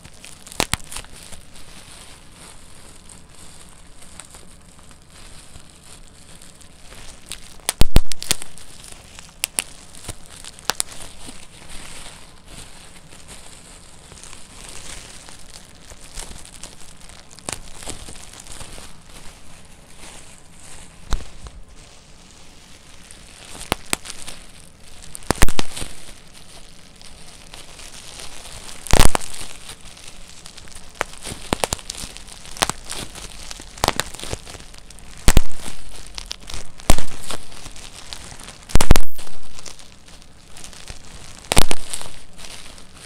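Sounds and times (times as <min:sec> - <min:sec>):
bubble wrap bubbles popping: 0:00.0 - 0:43.0
bubble wrap crinkling: 0:00.0 - 0:43.0.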